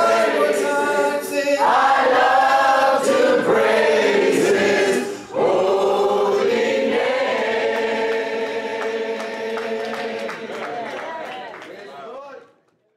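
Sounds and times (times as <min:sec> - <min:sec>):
congregation singing a hymn: 0:00.0 - 0:11.4.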